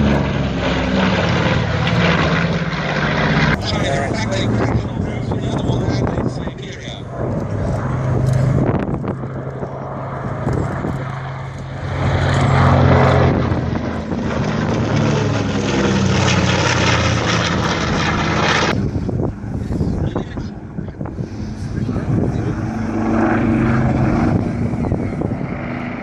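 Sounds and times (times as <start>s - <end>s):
propeller plane flying past: 0.0s - 26.0s.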